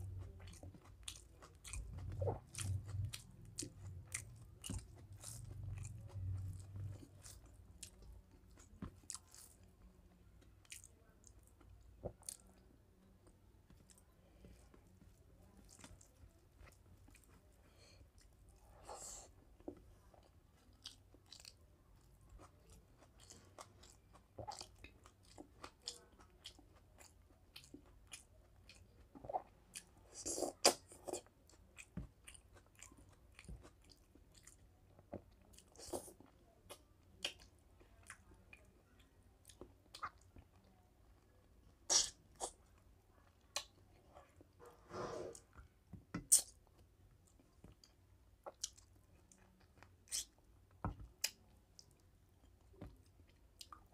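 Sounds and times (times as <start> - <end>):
chewing with wet clicks: 0.0 - 17.5, 19.6 - 44.6, 45.6 - 53.9.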